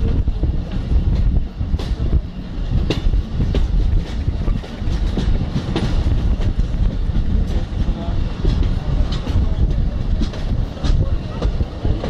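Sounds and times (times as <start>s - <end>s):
train rumbling on rails: 0.0s - 12.0s
wheels clacking over rail joints: 0.0s - 12.0s.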